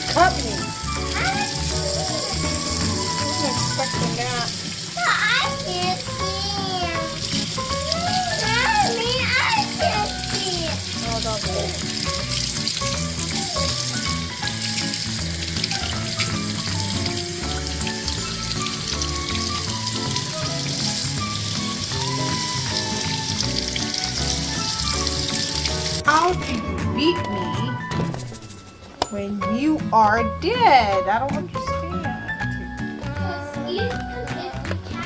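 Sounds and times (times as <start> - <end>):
tap water running into sink: 0.0 - 28.5
background music: 0.0 - 35.0.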